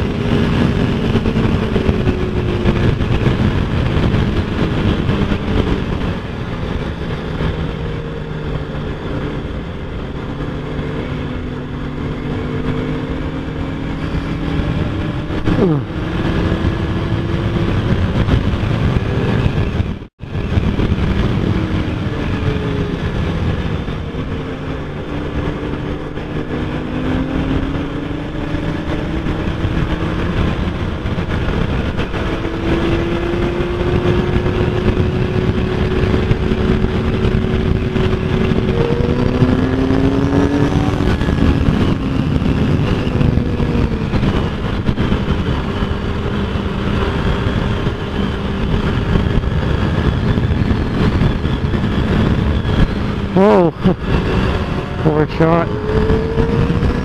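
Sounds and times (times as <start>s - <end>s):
motorcycle engine running: 0.0s - 57.0s
road rumble: 0.0s - 57.0s
wind noise: 0.0s - 57.0s.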